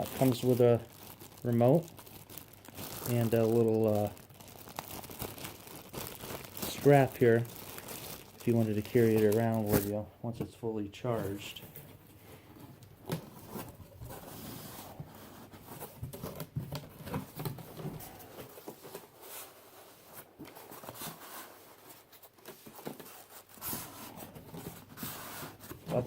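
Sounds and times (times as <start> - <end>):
packaging rustling and crinkling: 0.0 - 10.1, 11.1 - 26.0.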